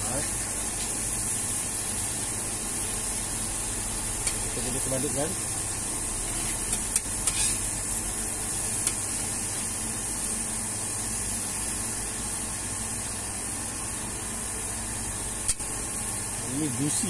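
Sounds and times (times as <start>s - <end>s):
burger patties sizzling on griddle: 0.0s - 17.0s.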